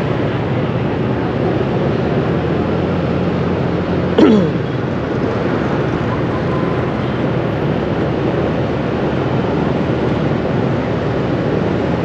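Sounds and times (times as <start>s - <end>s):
motorbike and car engines: 0.0s - 12.0s
road noise rushing: 0.0s - 12.0s.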